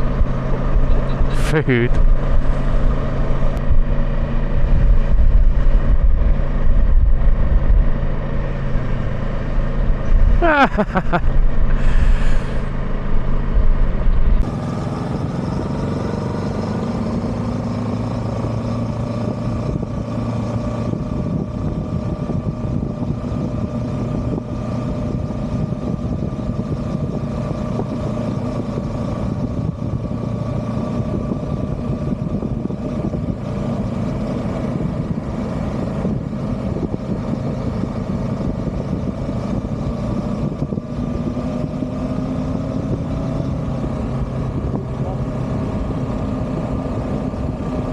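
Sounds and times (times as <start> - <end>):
motorcycle engine cruising: 0.0 - 47.9
road and air noise: 0.0 - 47.9.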